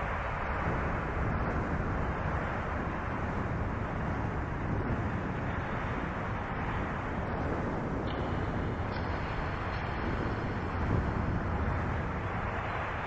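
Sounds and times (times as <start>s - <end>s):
processed wind and rain rushing: 0.0s - 13.0s.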